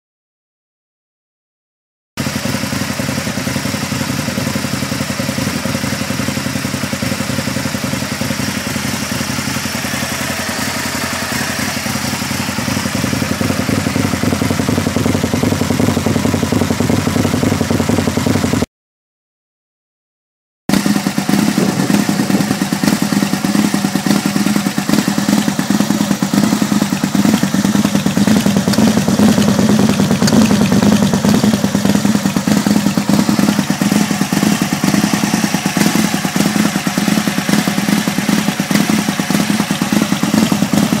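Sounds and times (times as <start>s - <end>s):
motorcycle engine idling: 2.2s - 18.7s, 20.7s - 41.0s.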